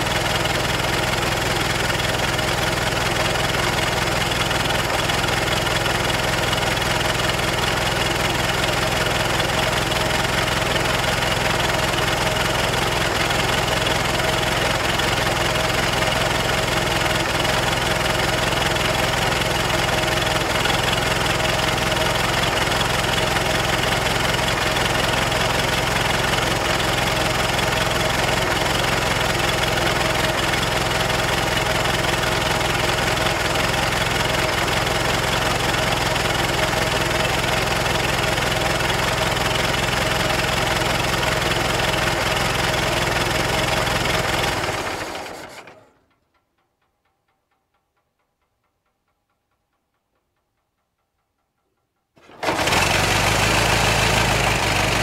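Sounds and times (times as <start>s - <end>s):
car engine idling: 0.0s - 46.3s, 52.2s - 55.0s.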